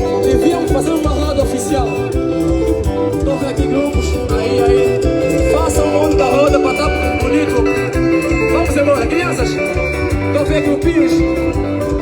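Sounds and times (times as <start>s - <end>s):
live dance band music: 0.0s - 12.0s.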